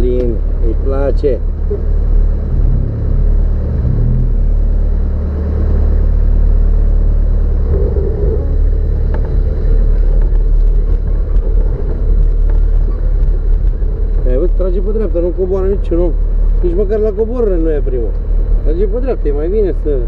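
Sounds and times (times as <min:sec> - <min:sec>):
vehicle engine low rumble: 0:00.0 - 0:20.0.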